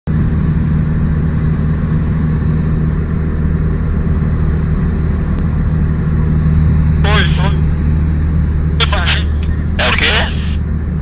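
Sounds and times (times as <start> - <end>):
propeller plane engine drone: 0.1 - 11.0.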